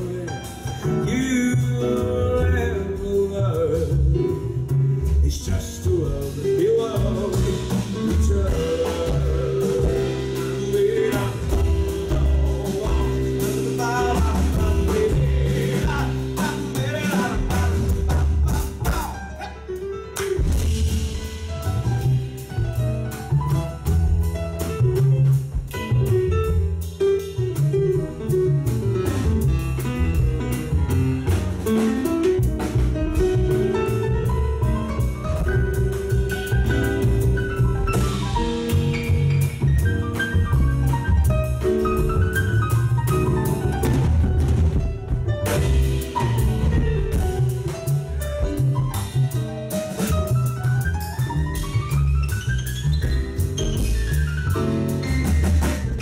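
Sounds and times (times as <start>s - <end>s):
double bass notes: 0.0s - 56.0s
drum kit and cymbals: 0.0s - 56.0s
jazz band playing: 0.0s - 56.0s.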